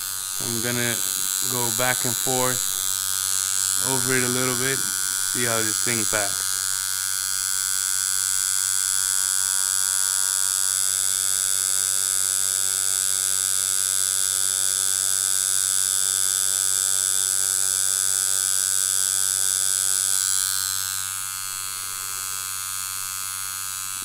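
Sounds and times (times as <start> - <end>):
tattoo machine humming: 0.0 - 24.0.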